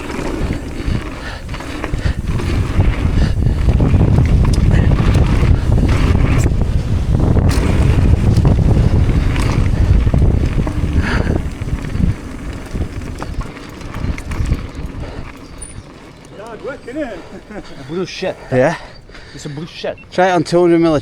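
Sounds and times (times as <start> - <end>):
bike clicking rattles: 0.0 - 19.9
bike tyre rumble: 0.0 - 21.0
wind buffeting microphone: 0.0 - 21.0.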